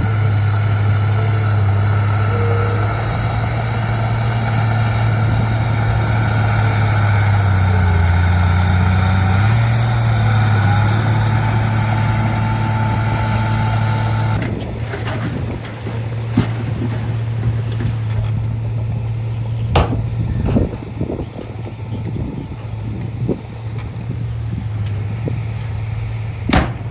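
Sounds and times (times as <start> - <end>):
bulldozer diesel engine running: 0.0 - 26.9.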